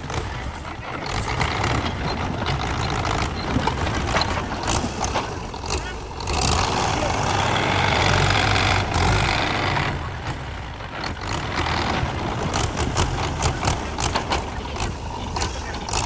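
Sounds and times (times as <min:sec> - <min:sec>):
diesel engine running: 0:00.0 - 0:16.0
knocks and clatter: 0:00.0 - 0:16.0.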